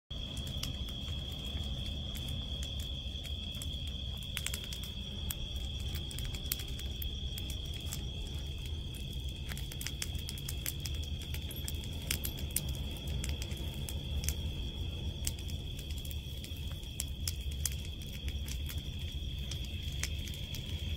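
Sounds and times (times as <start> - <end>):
bonfire crackling and popping: 0.1 - 20.9
low fire rush: 0.1 - 20.9
night insects trilling: 0.1 - 20.9.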